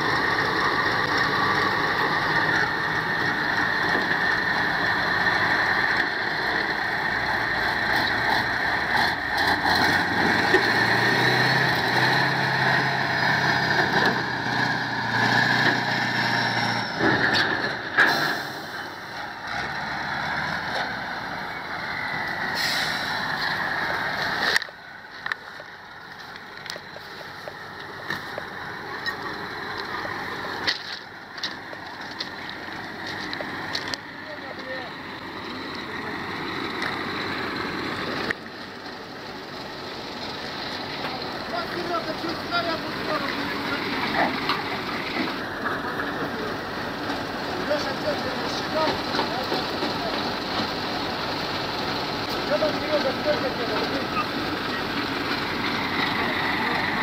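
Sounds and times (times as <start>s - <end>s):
diesel truck engines running hard: 0.0s - 57.0s.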